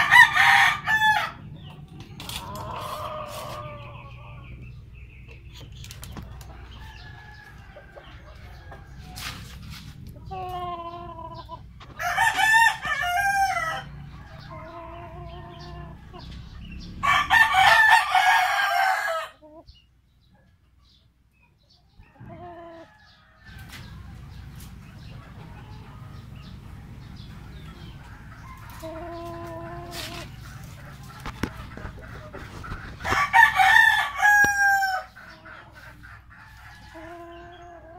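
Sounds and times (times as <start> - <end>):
roosters crowing: 0.0 - 4.9, 6.2 - 19.6, 21.9 - 37.9.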